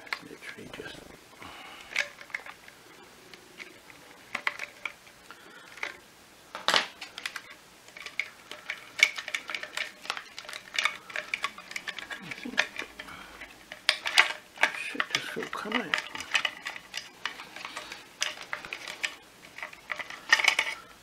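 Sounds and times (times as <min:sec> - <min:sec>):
plastic housing clicks and rattles: 0:01.8 - 0:02.8, 0:03.6 - 0:20.8.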